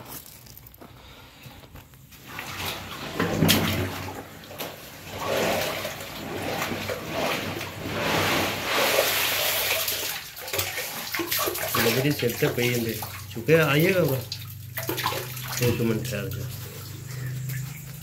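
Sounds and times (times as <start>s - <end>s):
sewage water sloshing and splashing: 2.0s - 18.0s.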